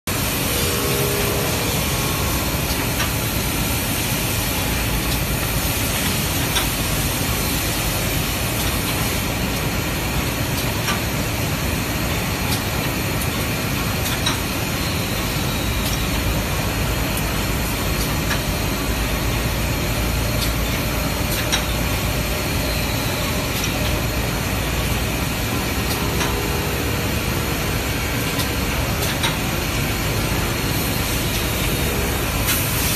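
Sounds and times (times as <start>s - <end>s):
drilling machine hiss and hum: 0.1s - 32.9s.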